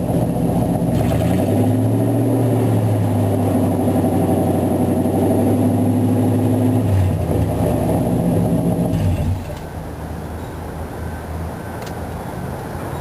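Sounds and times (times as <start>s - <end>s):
engine idling with loud rumble: 0.0s - 11.9s.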